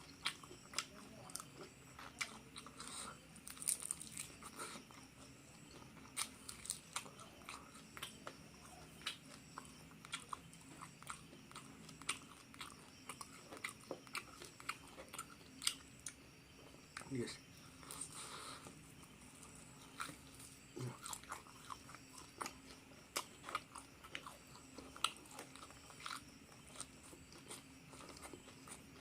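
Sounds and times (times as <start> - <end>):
chewing and crunching crispy food: 0.0 - 29.0.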